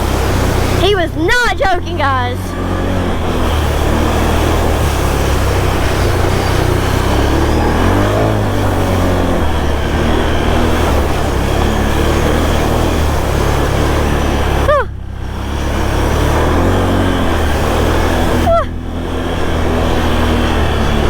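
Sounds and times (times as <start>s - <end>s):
atv engine running hard: 0.0s - 21.0s
rushing water noise: 0.0s - 21.0s.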